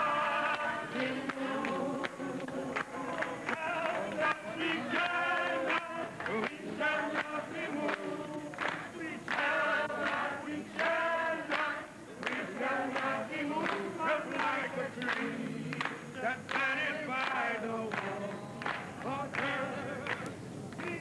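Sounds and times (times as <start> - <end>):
crowd singing: 0.0 - 21.0.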